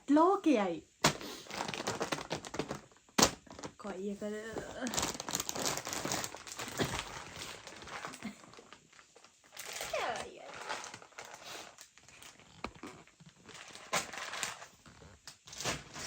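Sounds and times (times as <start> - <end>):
plastic packaging crinkling: 1.0 - 16.0.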